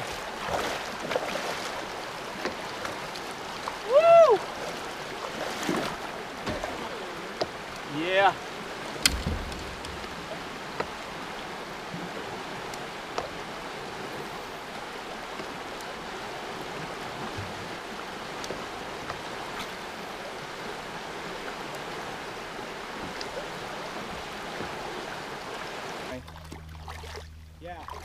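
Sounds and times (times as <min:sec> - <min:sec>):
river rushing over rocks: 0:00.0 - 0:26.1.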